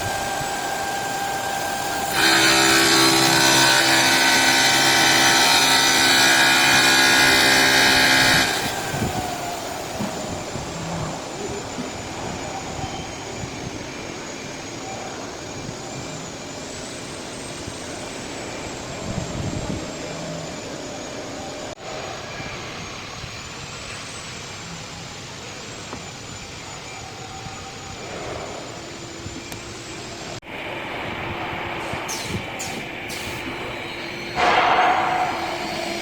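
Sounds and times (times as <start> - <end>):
saw grinding with high whine: 0.0 - 30.4, 31.8 - 36.0.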